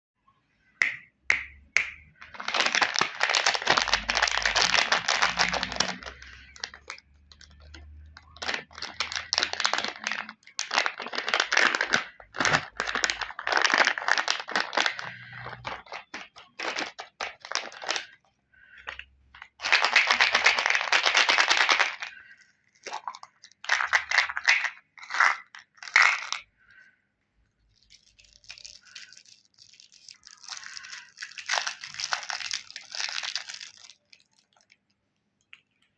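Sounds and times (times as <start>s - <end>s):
plastic wrappers tearing and crinkling: 2.2s - 18.2s, 18.9s - 26.4s, 27.7s - 34.9s.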